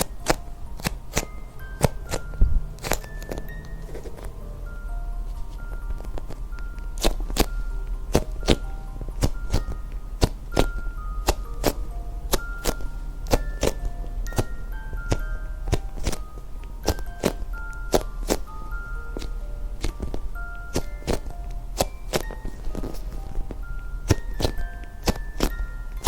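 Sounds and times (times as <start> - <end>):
crisp percussion beat: 0.0 - 26.0
music-box-like melody: 0.0 - 26.0.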